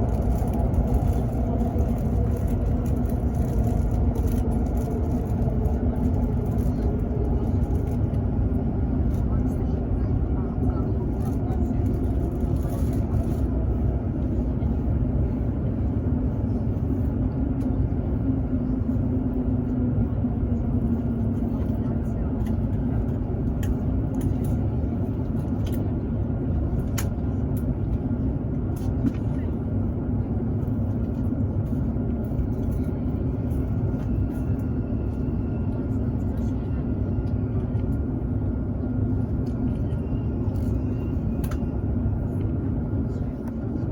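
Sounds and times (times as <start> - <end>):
train cabin rumble: 0.0 - 43.9.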